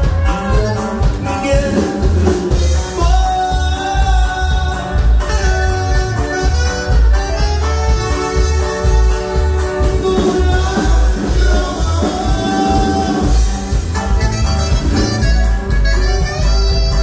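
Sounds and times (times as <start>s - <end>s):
accordion melody: 0.0s - 17.0s.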